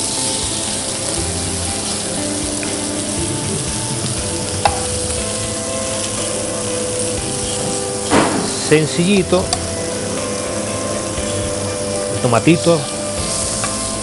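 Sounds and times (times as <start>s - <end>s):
mushrooms sizzling in oil: 0.0s - 14.0s.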